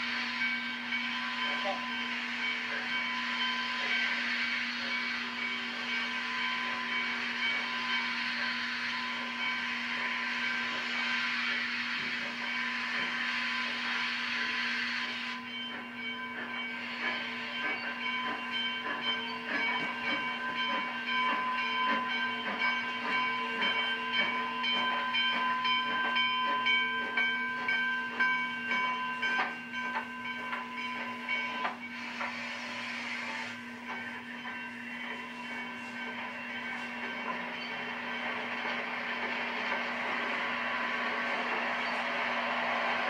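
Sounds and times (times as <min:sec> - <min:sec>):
steady ringing tones: 0:00.0 - 0:14.5, 0:15.3 - 0:43.0
steam venting hiss: 0:00.0 - 0:24.6, 0:31.2 - 0:43.0
train rolling rhythm: 0:00.0 - 0:43.0.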